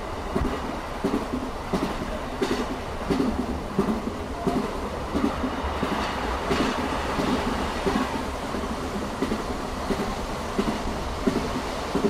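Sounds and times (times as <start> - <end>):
low train running rumble: 0.0 - 12.0
train wheels knocking over rail joints: 0.3 - 12.0.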